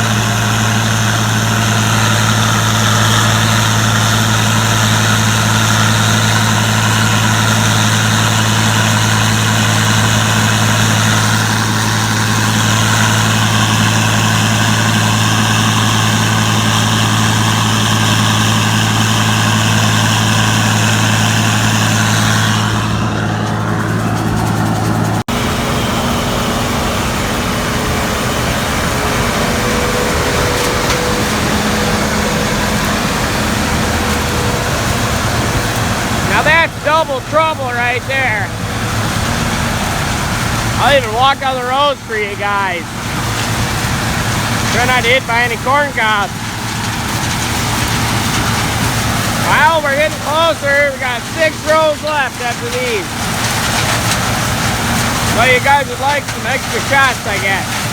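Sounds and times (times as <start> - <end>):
large diesel engine running: 0.0 - 57.9.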